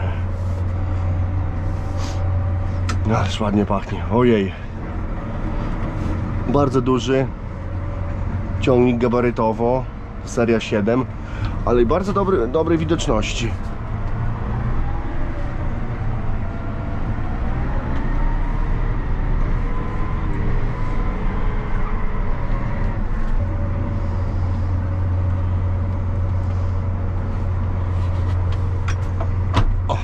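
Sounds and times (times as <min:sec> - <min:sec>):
deep engine drone: 0:00.0 - 0:30.0
tractor diesel engine running: 0:00.0 - 0:30.0.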